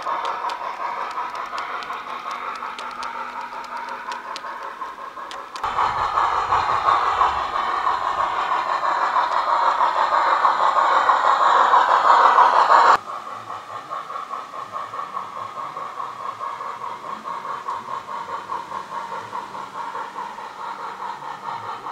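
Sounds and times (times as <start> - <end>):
model steam locomotive chuffing: 0.0 - 21.9
wheels rattling on track: 0.0 - 21.9.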